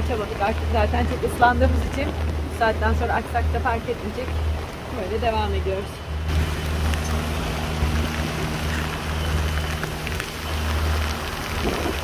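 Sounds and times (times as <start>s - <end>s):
boat engine humming: 0.0s - 12.0s
heavy rain pouring on a boat: 0.0s - 12.0s.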